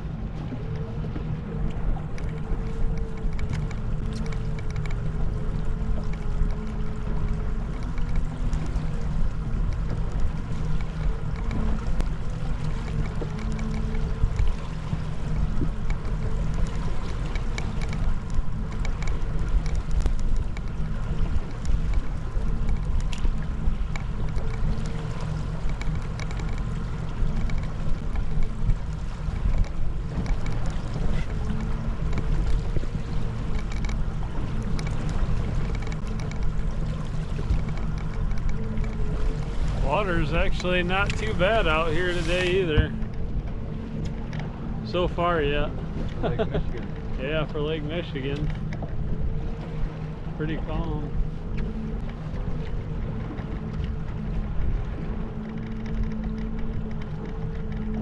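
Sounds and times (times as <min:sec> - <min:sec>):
boat engine droning: 0:00.0 - 0:58.0
water noise: 0:00.0 - 0:58.0
wind: 0:00.0 - 0:58.0.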